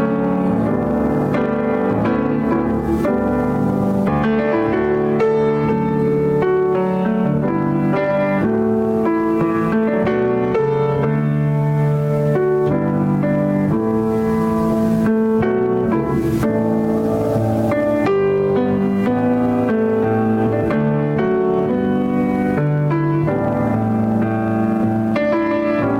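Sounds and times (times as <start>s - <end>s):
slow piano music: 0.0s - 25.9s.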